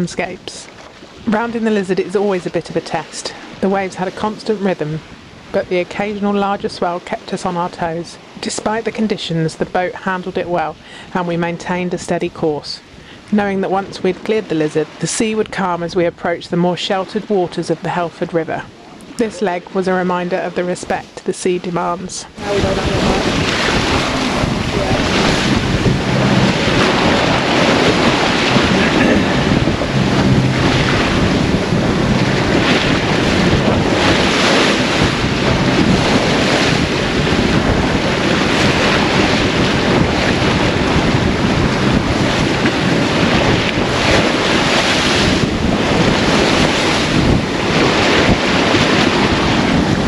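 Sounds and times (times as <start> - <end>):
wind buffeting microphone: 0.0 - 17.6, 22.2 - 50.0
waves rushing and breaking: 0.0 - 50.0.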